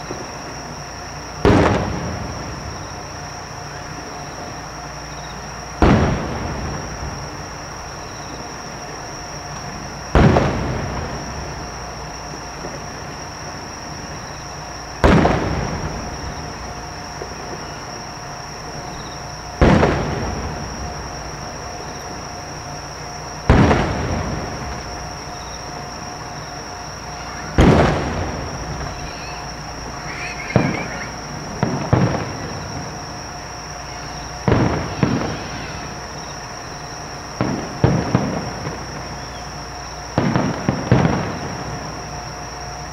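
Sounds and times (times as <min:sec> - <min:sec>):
firework booms echoing: 0:00.0 - 0:42.9
smaller firework bangs: 0:00.0 - 0:42.9.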